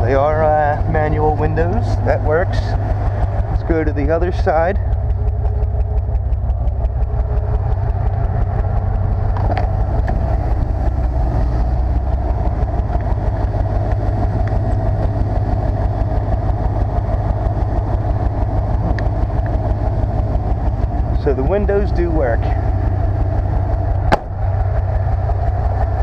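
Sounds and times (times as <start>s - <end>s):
pickup engine idling: 0.0s - 26.0s.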